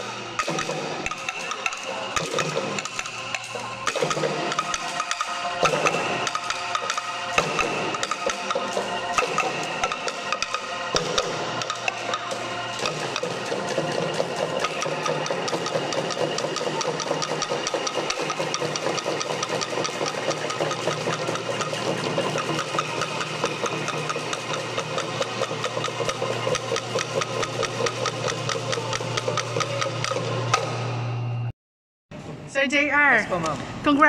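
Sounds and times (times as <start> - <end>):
bamboo tubes tapped by sticks: 0.4 - 30.6.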